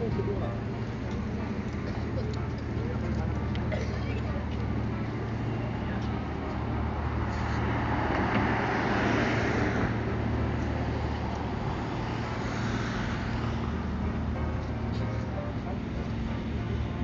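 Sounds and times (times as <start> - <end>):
low rumble of traffic: 0.0 - 17.0
vehicle passing: 2.2 - 17.0.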